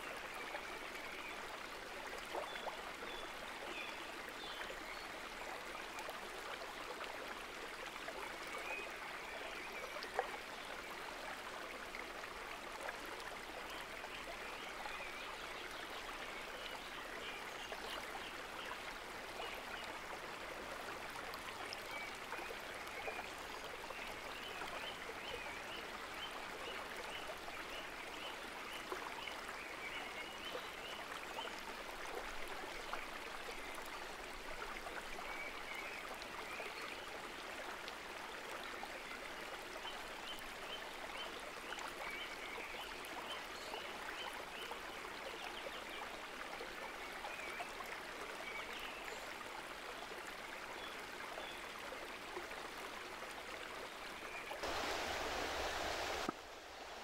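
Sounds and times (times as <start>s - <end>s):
creek flowing over stones: 0.0s - 57.0s.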